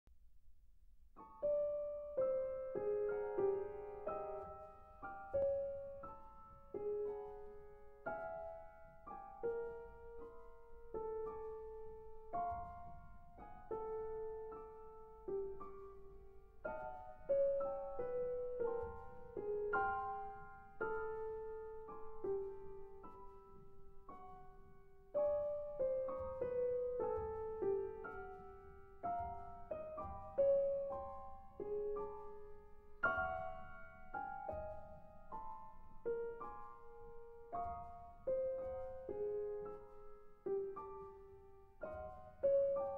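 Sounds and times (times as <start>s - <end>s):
slow piano chords: 1.0s - 42.9s.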